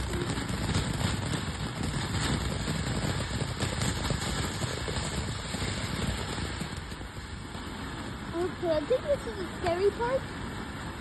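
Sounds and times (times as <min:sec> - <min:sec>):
faint crackling: 0:00.0 - 0:10.2
firework fountain hissing: 0:00.0 - 0:11.0.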